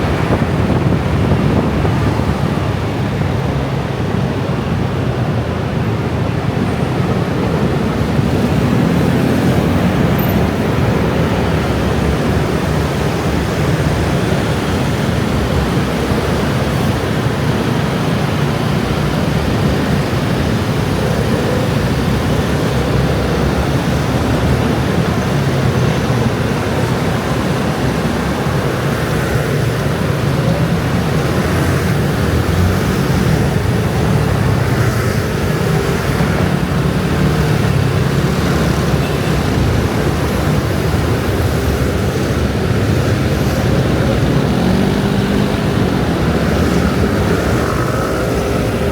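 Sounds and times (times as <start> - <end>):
scooter and motorbike traffic: 0.0 - 48.9.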